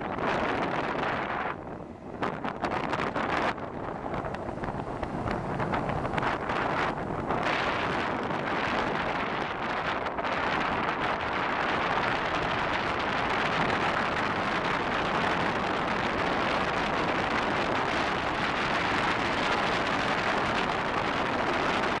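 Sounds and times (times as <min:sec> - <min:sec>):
car tyre and wind noise: 0:00.0 - 0:22.0.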